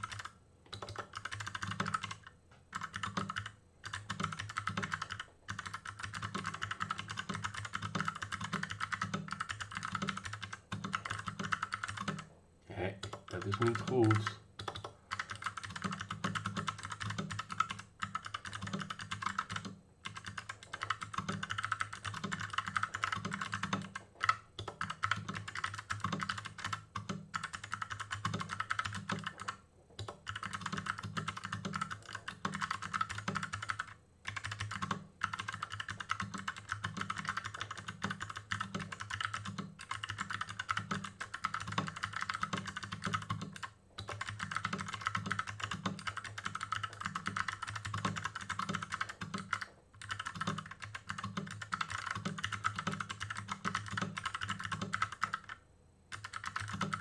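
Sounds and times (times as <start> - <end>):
mechanical keyboard typing: 0.0 - 12.3, 13.0 - 57.0.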